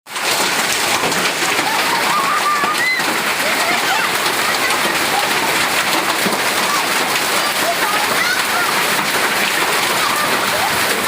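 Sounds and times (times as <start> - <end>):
heavy rain downpour: 0.1 - 11.0.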